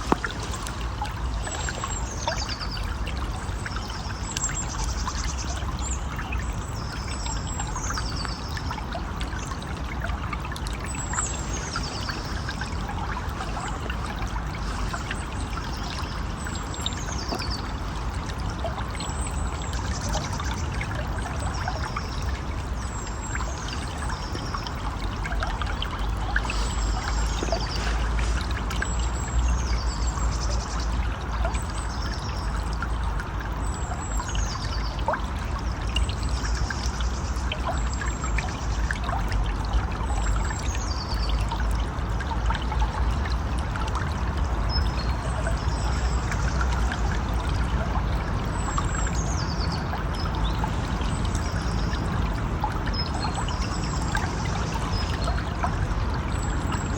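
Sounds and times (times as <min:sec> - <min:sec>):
stream running: 0:00.0 - 0:56.9.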